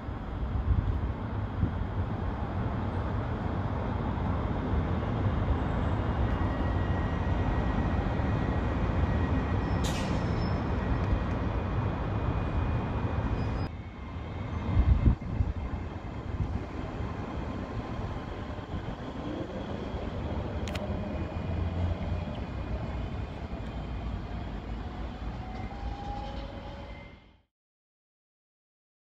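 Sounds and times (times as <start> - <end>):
train rumbling with faint whine: 0.0 - 27.0.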